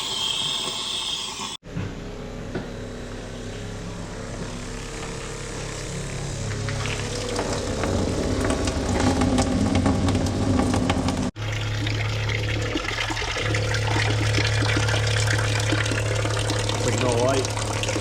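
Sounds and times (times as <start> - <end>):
pump motor humming: 3.6 - 18.0.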